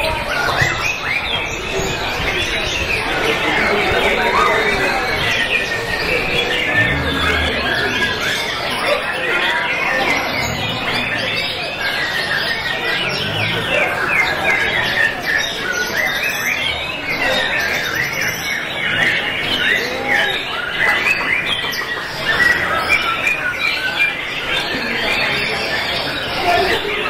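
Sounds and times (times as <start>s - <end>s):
many birds singing: 0.0s - 27.0s.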